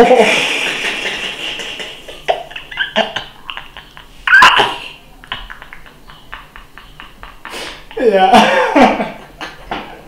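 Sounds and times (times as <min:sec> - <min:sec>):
man laughing hard: 0:00.0 - 0:09.6.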